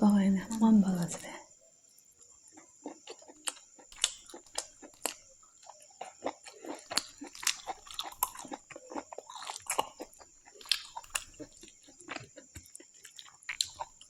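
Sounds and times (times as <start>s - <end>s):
person chewing food: 1.8s - 14.0s.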